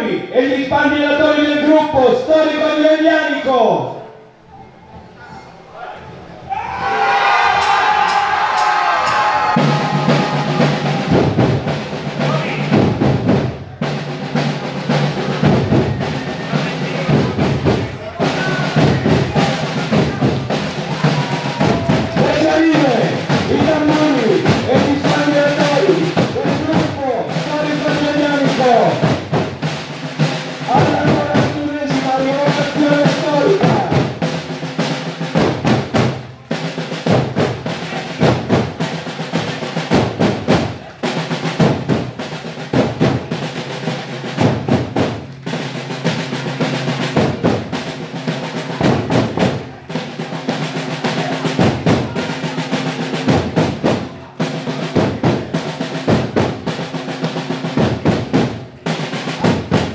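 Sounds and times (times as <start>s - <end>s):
drum corps marching cadence: 6.3s - 59.9s.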